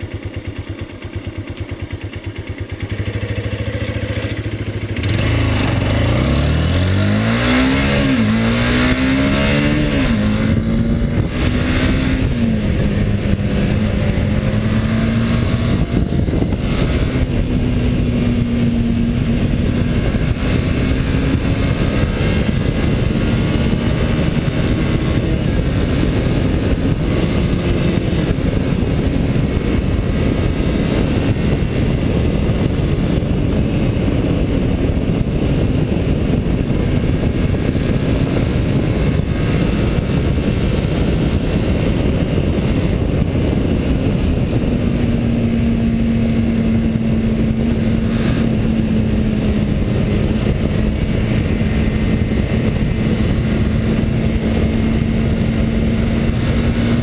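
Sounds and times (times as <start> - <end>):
motorcycle engine running: 0.0 - 57.0
wind rush on microphone: 2.3 - 57.0.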